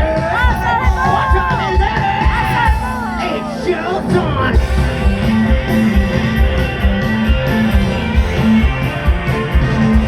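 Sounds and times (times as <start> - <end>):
band playing instrumental: 0.0 - 10.0.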